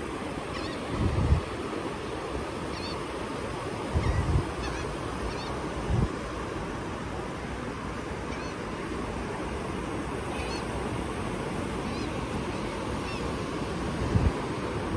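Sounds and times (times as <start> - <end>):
ocean surf breaking: 0.0 - 14.9.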